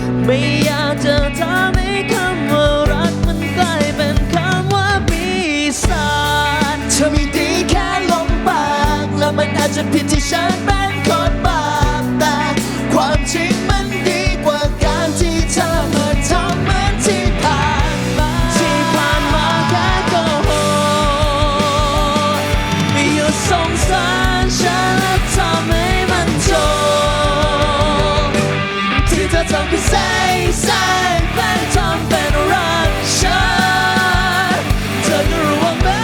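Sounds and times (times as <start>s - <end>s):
live pop-rock band: 0.0s - 36.0s
steady drum beat: 0.0s - 36.0s.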